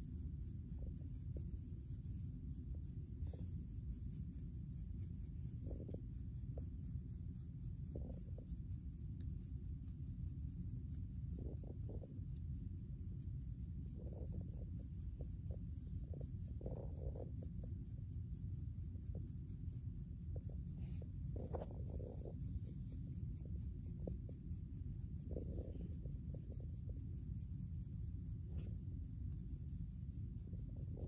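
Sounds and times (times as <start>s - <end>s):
comb scratching through hair: 0.0s - 31.0s
steady low rumble: 0.0s - 31.0s.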